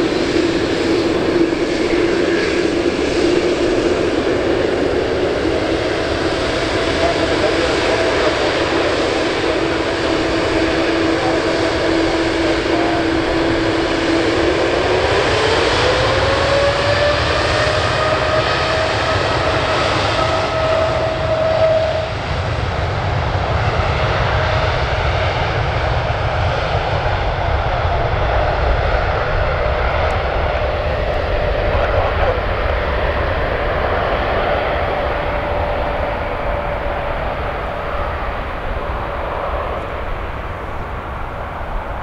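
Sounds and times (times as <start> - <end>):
jet engines whining: 0.0 - 42.0.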